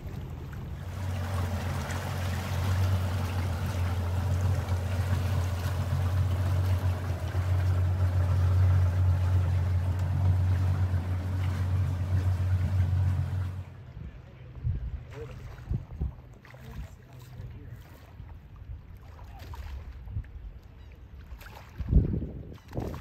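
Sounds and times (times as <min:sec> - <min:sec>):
outboard motor droning: 0:00.0 - 0:23.0.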